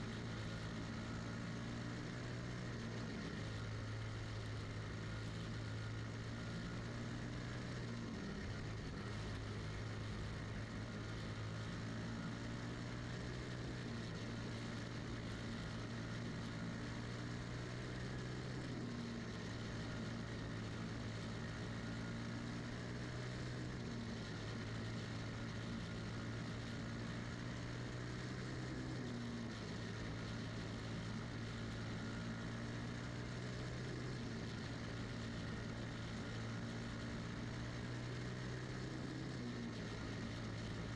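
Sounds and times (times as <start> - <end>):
kart engine at racing speed: 0.0 - 40.9.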